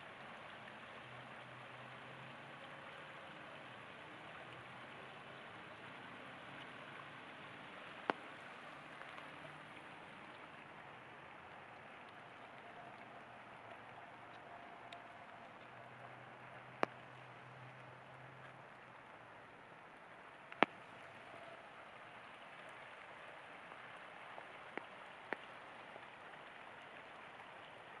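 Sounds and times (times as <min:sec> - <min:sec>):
creek rushing: 0:00.0 - 0:28.0
steady rain falling: 0:00.0 - 0:28.0.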